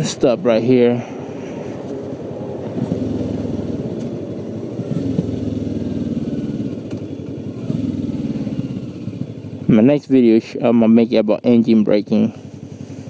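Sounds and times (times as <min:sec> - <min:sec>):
motorcycle engine running: 0:00.5 - 0:13.0.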